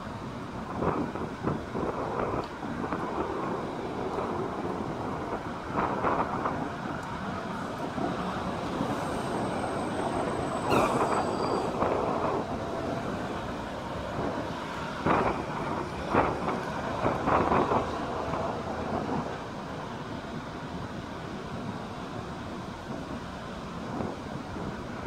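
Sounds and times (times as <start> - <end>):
cars passing by: 0.0 - 25.0
road traffic rushing: 0.0 - 25.0.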